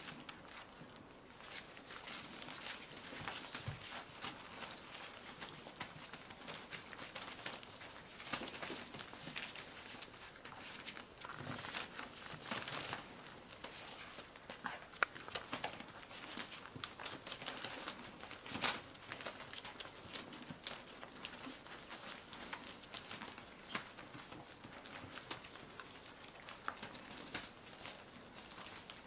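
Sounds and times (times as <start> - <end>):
newspaper rustling under paws: 0.0 - 29.0.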